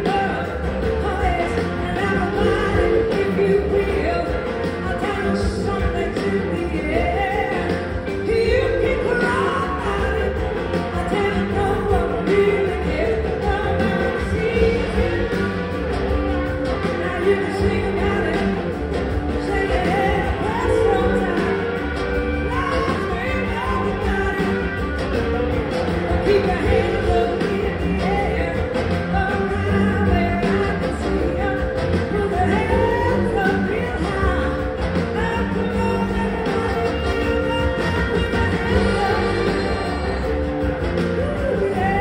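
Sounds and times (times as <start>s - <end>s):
backing singers: 0.0s - 24.8s, 25.4s - 42.0s
lead vocal singing: 0.0s - 42.0s
live rock band playing: 0.0s - 42.0s.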